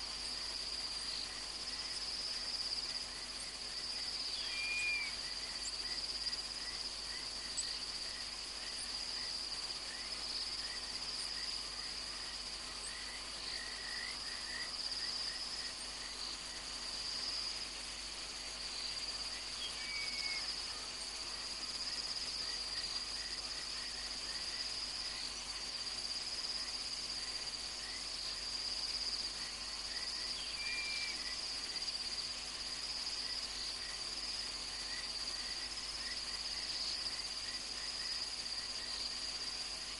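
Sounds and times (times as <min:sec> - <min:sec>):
crickets trilling: 0:00.0 - 0:39.9
faint insect chirps: 0:00.0 - 0:39.9.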